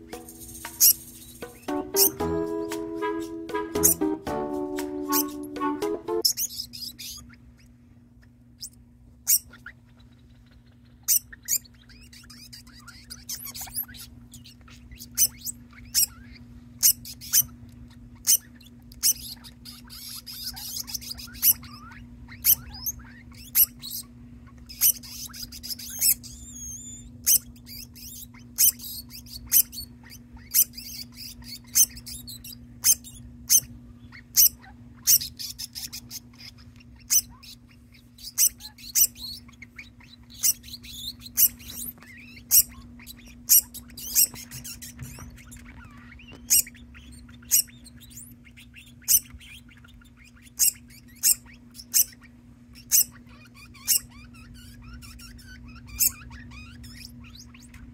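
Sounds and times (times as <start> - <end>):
rodent squeaking: 0.0 - 57.9.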